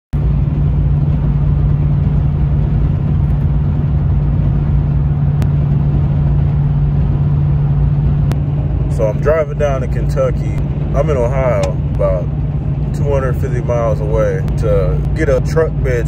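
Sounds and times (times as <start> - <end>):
low engine drone: 0.1 - 16.0
road and tyre rumble: 0.1 - 16.0.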